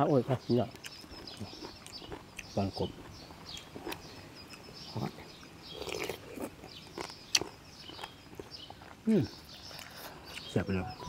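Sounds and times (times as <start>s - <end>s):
person chewing: 0.7s - 10.5s.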